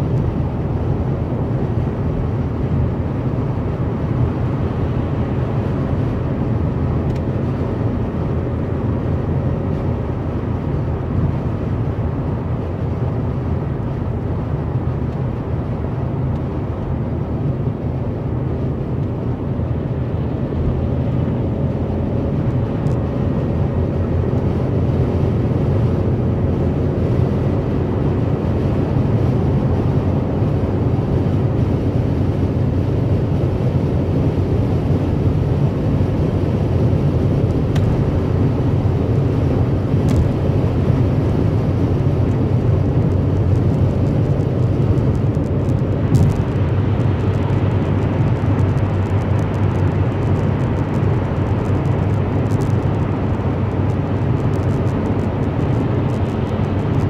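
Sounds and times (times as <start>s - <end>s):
car road noise from inside: 0.0s - 57.0s.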